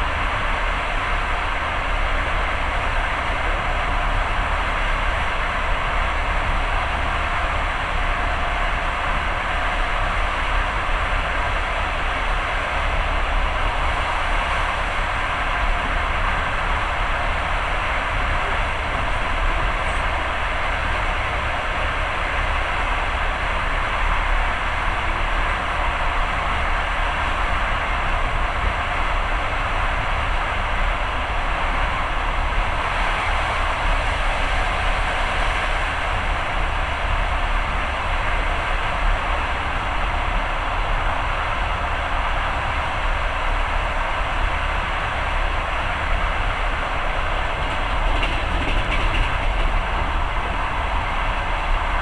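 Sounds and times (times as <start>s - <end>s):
train rumbling inside carriage: 0.0s - 52.0s.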